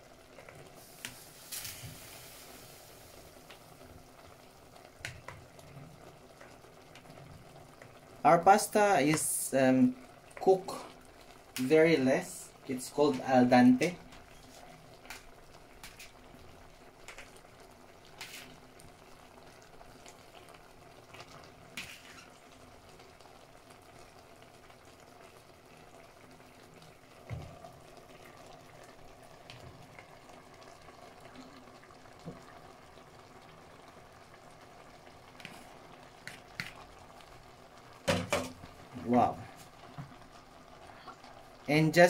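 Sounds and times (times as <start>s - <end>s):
sauce bubbling in a pot: 0.0s - 42.0s.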